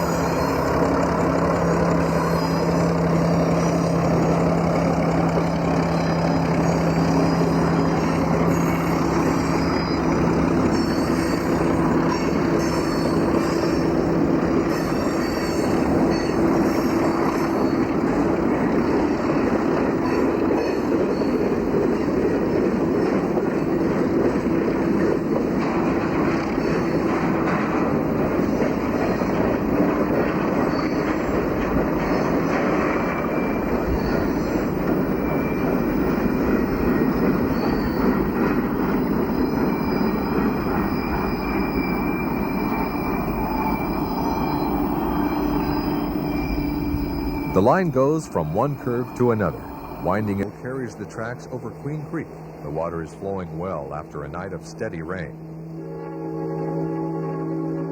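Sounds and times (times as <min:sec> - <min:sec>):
faint wheel squeal: 0:00.0 - 0:24.2, 0:25.0 - 0:50.1
diesel locomotive engine drone: 0:00.0 - 0:57.9
train wheels rumbling on rails: 0:00.0 - 0:57.9.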